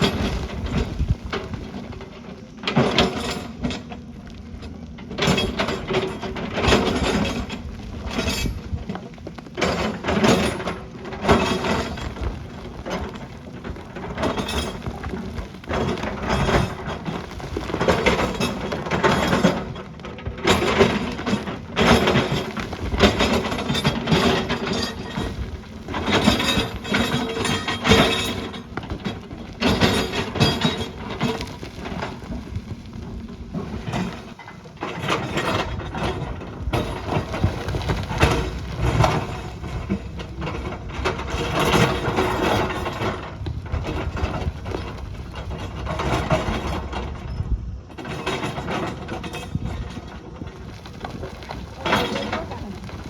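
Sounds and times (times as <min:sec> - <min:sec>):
heavy machinery engine rumble: 0:00.0 - 0:53.0
stone clanking and scraping steel: 0:05.3 - 0:46.9, 0:48.1 - 0:53.0.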